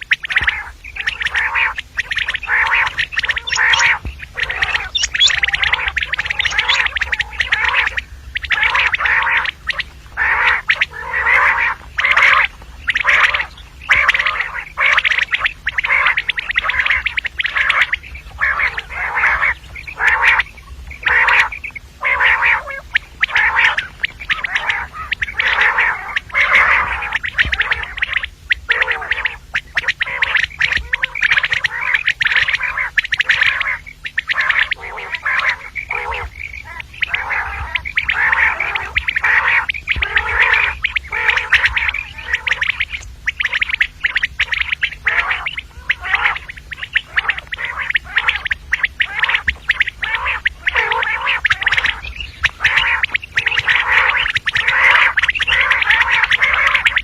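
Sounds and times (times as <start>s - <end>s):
quail chattering calls: 0.0s - 57.0s.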